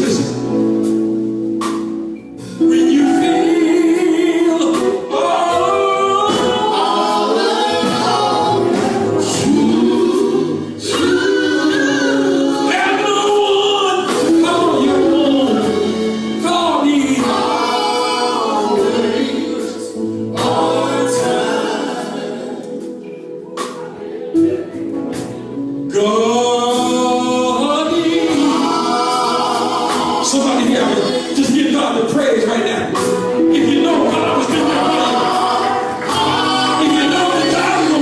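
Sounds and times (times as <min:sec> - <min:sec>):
gospel group singing in harmony: 0:00.0 - 0:38.0.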